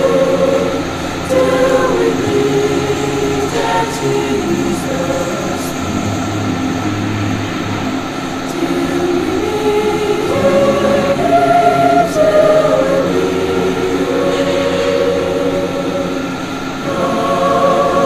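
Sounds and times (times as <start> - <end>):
group singing a slow hymn: 0.0 - 18.0.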